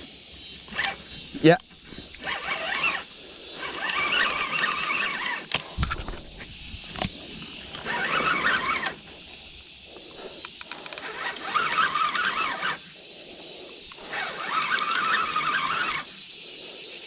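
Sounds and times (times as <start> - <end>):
fishing reel drag ratcheting: 0.6 - 6.3, 6.9 - 16.2.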